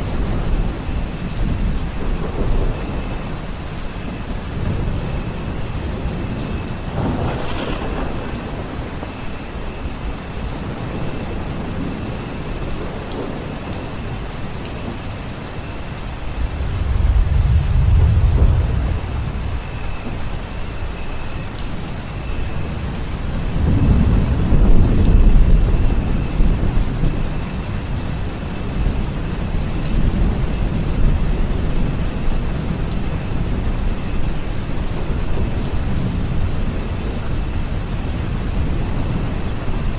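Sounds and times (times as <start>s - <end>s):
heavy rain falling: 0.0s - 39.9s
low thunder rumbling: 0.0s - 39.9s.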